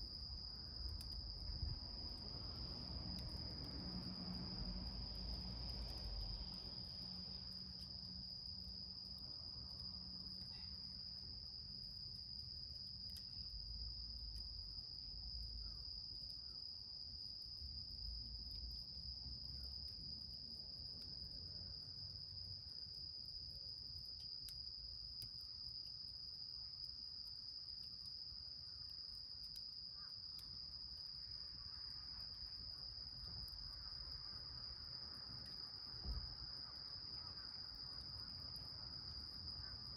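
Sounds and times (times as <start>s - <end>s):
crickets trilling: 0.0s - 39.9s
faint ticks: 0.8s - 1.3s, 2.1s - 16.6s, 19.5s - 34.0s, 34.8s - 39.9s.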